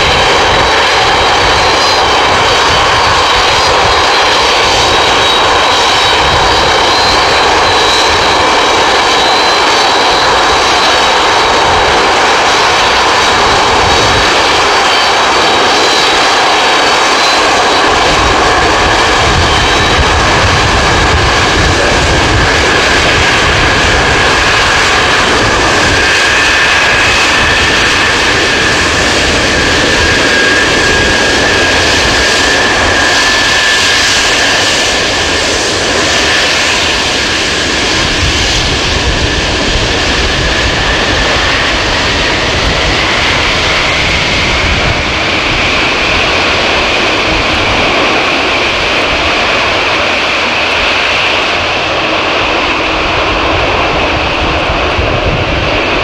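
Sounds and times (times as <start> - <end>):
high engine whine: 0.0 - 56.0
jet engines roaring: 0.0 - 56.0.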